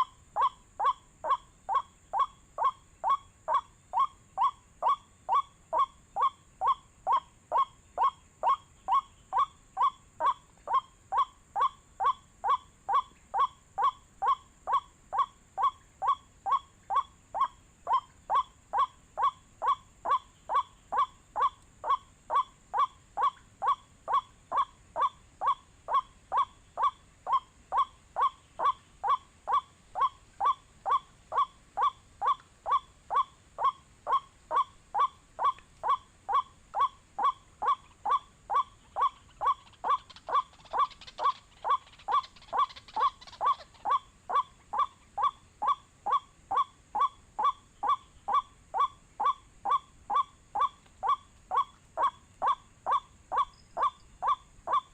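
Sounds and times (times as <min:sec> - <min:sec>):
waterhen call recording: 0:00.0 - 0:54.9.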